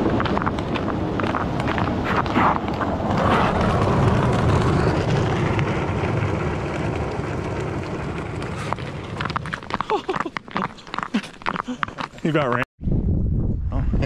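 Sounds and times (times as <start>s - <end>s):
wind rumble on microphone: 0.0s - 10.3s, 12.8s - 14.0s
sleds dragged across ice: 0.0s - 12.6s.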